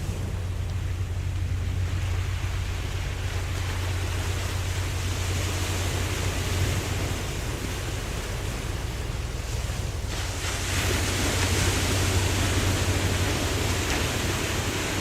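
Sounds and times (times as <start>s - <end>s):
low rumble: 0.0s - 15.0s
ocean waves washing: 0.0s - 15.0s
wind: 0.0s - 15.0s.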